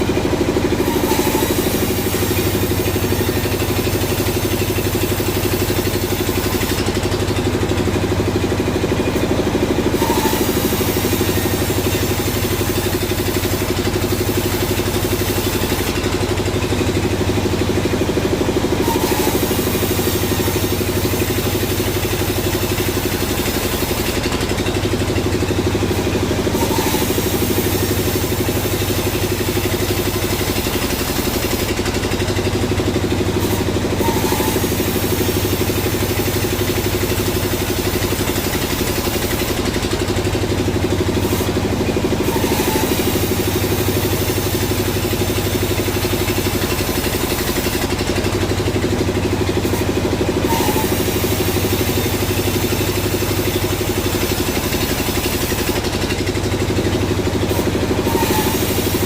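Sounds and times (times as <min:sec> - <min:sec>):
sawmill engine drone: 0:00.0 - 0:59.0.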